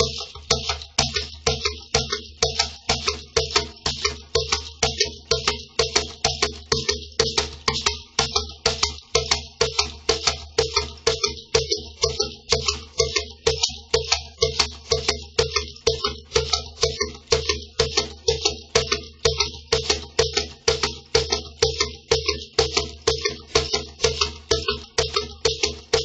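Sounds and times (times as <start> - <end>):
cajon played with hands: 0.0 - 26.0.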